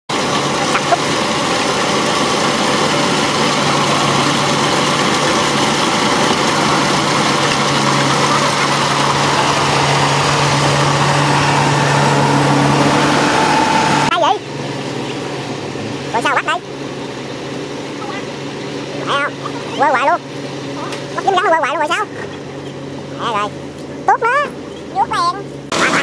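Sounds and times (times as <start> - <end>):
combine harvester running: 0.1 - 26.0
constant low hum: 0.1 - 26.0.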